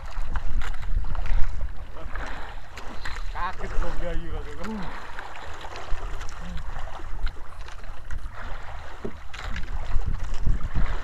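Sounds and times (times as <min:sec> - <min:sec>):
wind rumbling on microphone: 0:00.0 - 0:04.4, 0:05.8 - 0:11.0
water washing against boat: 0:00.0 - 0:11.0.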